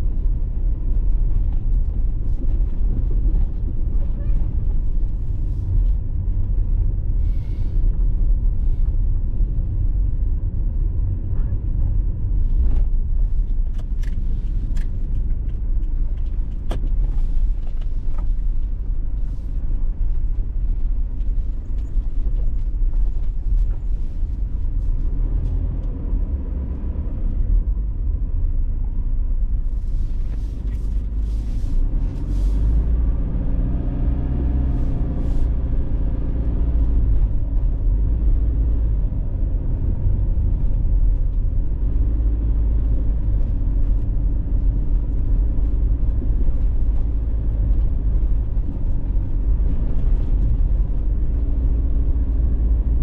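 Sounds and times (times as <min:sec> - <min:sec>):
tyre and engine rumble: 0:00.0 - 0:53.0.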